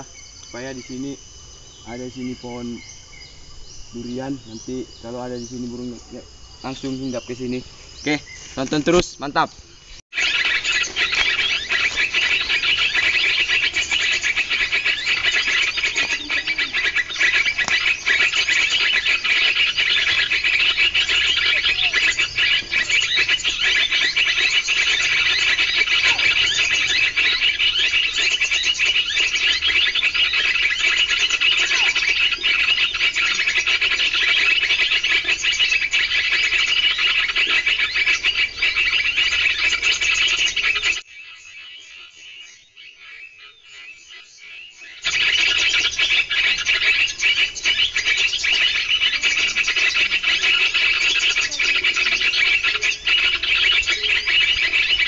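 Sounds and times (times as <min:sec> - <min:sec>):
chorus of high chirping calls: 0:00.0 - 0:55.0.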